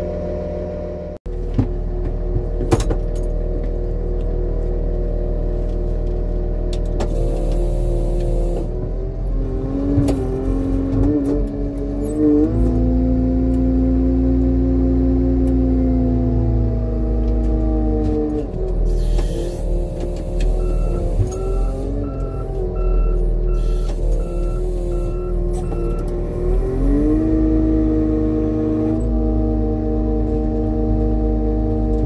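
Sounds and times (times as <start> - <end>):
motor grader diesel engine under load: 0.0 - 32.0.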